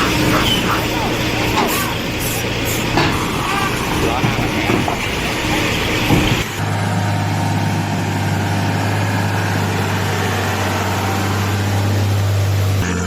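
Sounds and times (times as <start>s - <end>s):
truck engine low drone: 0.0s - 13.0s.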